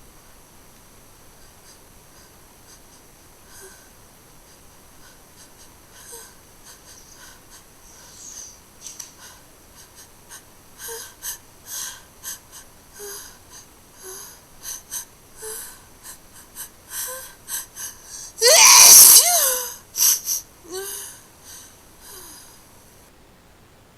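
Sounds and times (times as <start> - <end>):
short breaths: 3.5 - 22.7.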